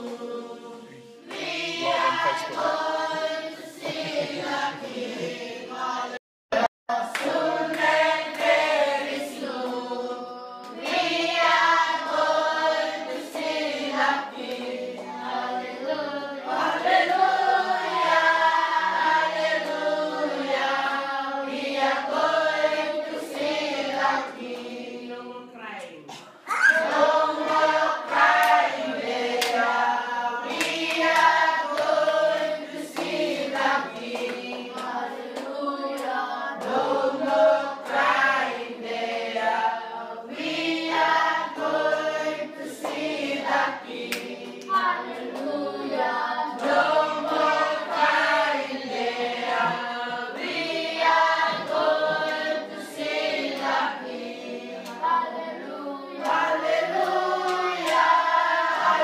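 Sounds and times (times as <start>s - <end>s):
children singing together: 0.0s - 6.2s, 6.9s - 25.4s, 26.2s - 59.0s.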